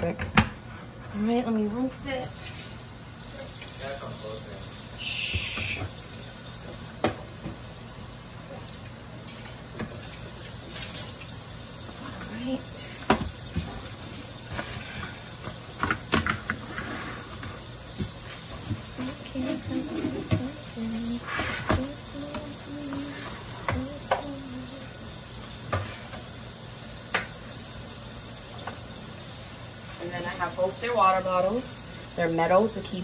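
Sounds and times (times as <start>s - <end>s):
food sizzling in a pan: 2.2s - 33.0s.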